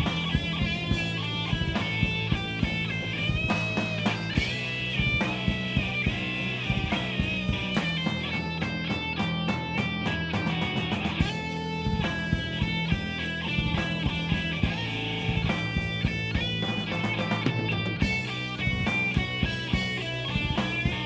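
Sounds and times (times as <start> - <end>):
electric guitar quick run: 0.0 - 21.0
rock band playing live: 0.0 - 21.0.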